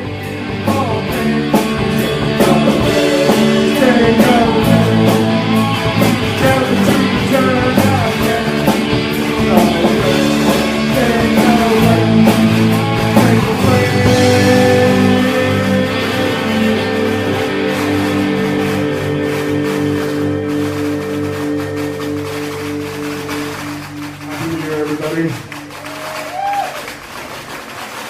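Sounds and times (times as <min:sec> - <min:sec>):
electric guitar lead: 0:00.0 - 0:27.2
low bass: 0:00.0 - 0:27.2
drum beat: 0:00.1 - 0:27.6.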